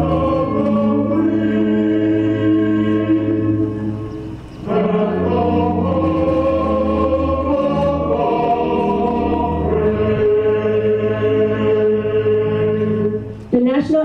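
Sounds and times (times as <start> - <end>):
choir singing an anthem: 0.0 - 13.5.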